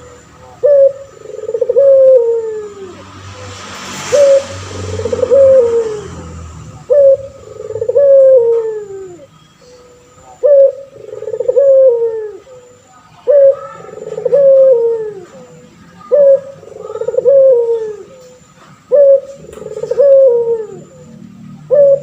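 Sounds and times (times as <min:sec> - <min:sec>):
dove cooing: 0:00.0 - 0:03.1, 0:04.1 - 0:22.0.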